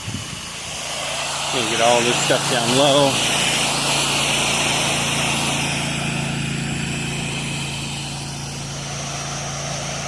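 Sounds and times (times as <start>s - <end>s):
hiss of water spray: 0.0s - 10.0s
pressure washer engine running: 0.0s - 10.0s.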